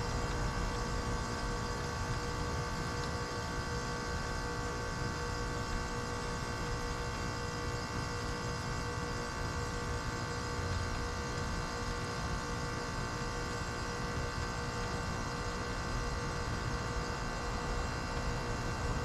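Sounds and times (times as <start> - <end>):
heat pump humming: 0.0 - 19.0.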